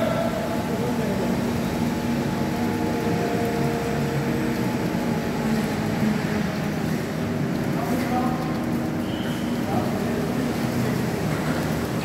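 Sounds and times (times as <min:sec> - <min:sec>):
milking machinery humming: 0:00.0 - 0:12.0.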